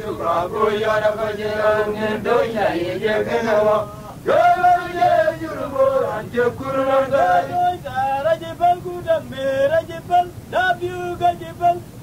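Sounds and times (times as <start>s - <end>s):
man singing chant-like song: 0.0s - 12.0s.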